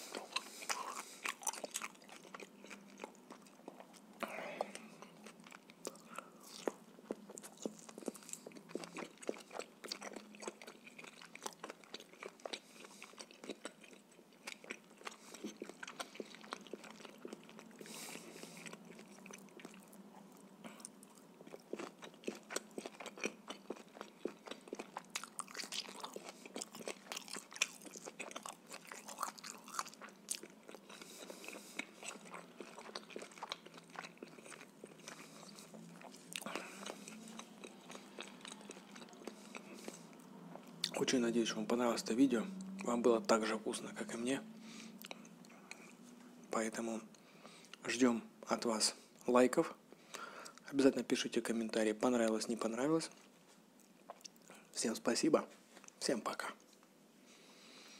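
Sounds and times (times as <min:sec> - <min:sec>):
chewing meat: 0:00.0 - 0:55.0.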